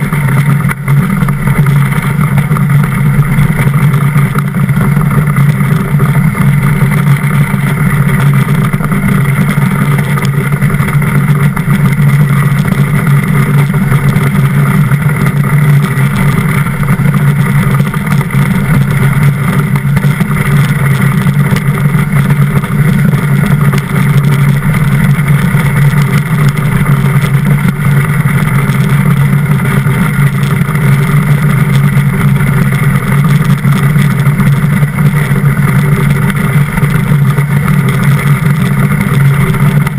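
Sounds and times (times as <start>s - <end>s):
runners rumbling on ice: 0.0s - 39.9s.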